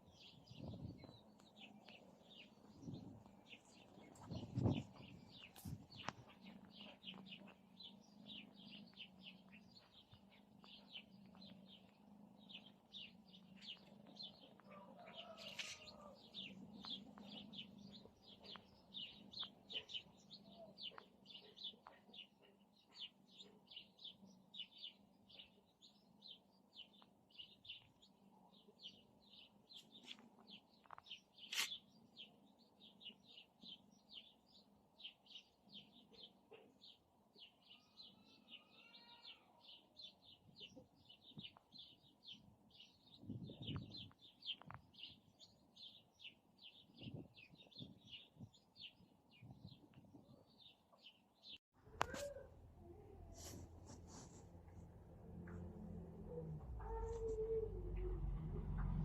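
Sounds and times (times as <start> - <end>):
bird chirping: 0.0 - 53.1.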